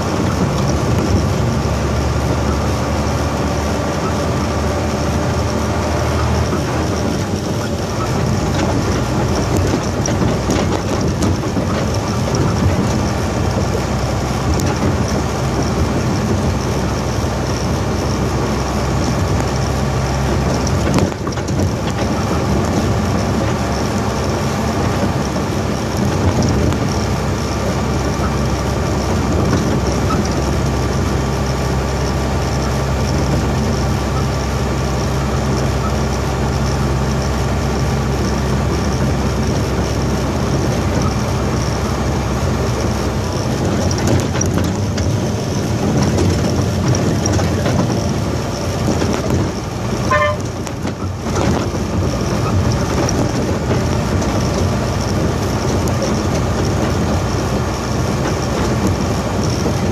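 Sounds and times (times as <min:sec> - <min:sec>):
road noise: 0:00.0 - 0:59.9
truck diesel engine from inside cab: 0:00.0 - 0:59.9.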